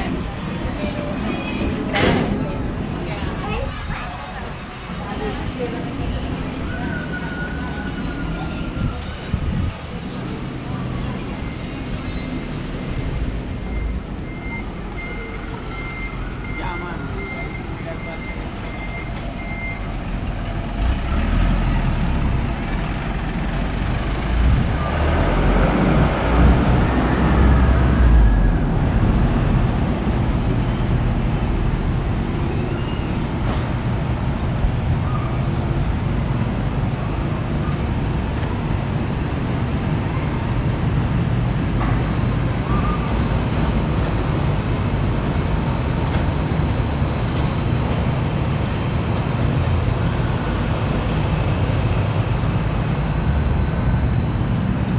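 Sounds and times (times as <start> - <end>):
heavy vehicle rumbling past: 0.0 - 54.9
traffic noise: 0.0 - 54.9.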